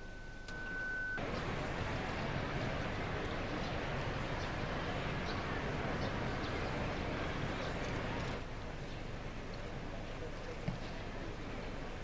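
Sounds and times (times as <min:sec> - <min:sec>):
outdoor crowd murmur: 0:00.0 - 0:12.0.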